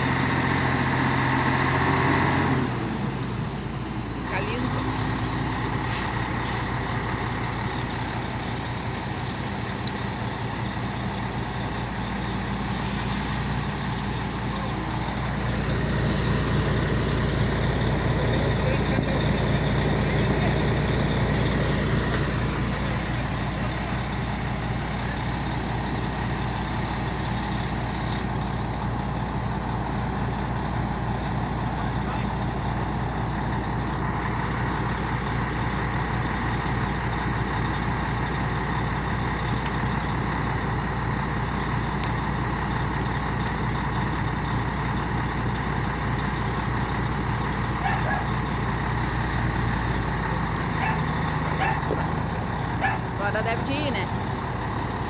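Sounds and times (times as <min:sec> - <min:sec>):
diesel truck engine pulsing drone: 0:00.0 - 0:55.0.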